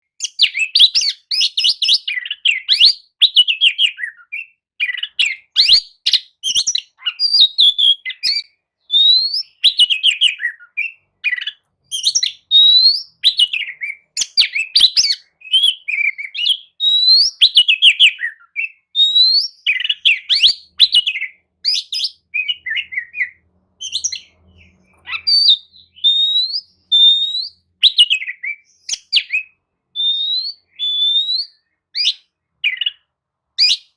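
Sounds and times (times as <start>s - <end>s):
songbird whistling and trilling: 0.0s - 33.9s.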